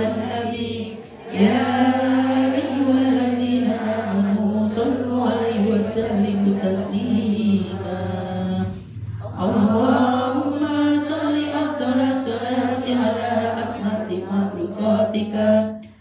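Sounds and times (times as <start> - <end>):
woman chanting through loudspeaker: 0.0 - 16.0.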